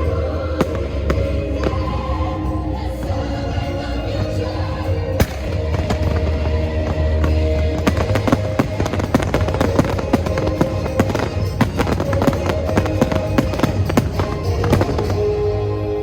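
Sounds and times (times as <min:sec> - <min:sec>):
fireworks bursts and crackling: 0:00.0 - 0:15.8
orchestral music: 0:00.0 - 0:16.0.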